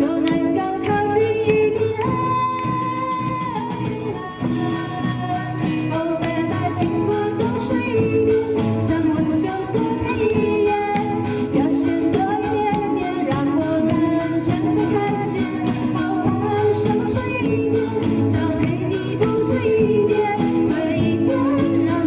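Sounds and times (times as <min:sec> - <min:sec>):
upbeat pop music with drums: 0:00.0 - 0:22.0.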